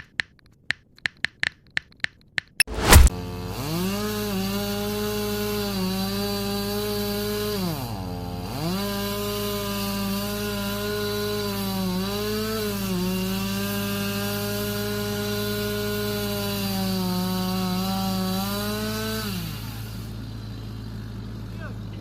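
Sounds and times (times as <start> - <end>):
chainsaw cutting wood: 2.6 - 22.0.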